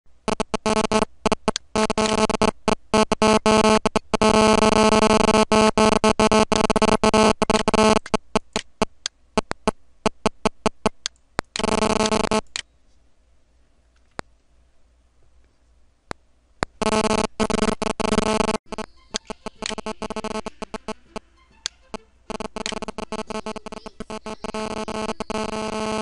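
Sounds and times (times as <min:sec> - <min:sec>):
stuttering buzzing tone: 0:00.1 - 0:12.5, 0:16.6 - 0:26.0.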